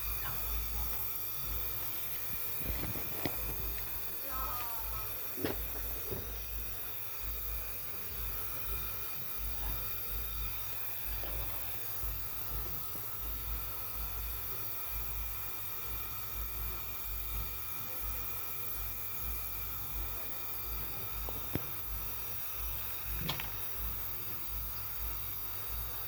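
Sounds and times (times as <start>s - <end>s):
faint hiss: 0.0s - 26.0s
machine hum with held tones: 0.0s - 26.0s.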